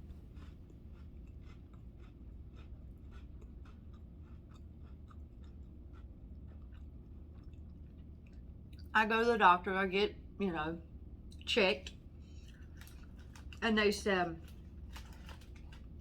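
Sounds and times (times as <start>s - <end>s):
chewing crunchy crackers: 0.0s - 9.0s, 11.2s - 16.0s.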